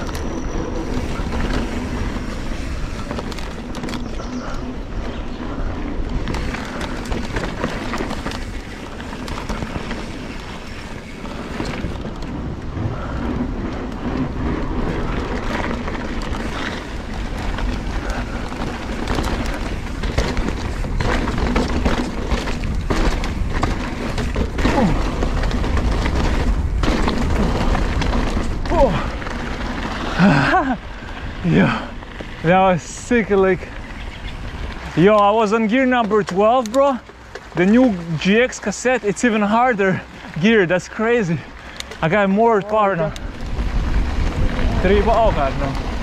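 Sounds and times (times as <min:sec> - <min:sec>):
wind rumble on microphone: 0:00.0 - 0:35.0, 0:42.8 - 0:46.0
bike tyres crunching on dirt: 0:00.0 - 0:46.0.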